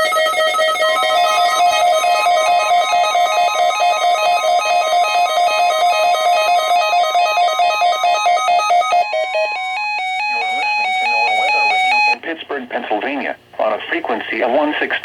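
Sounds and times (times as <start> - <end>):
steady warning alarm tone: 0.0 - 12.2.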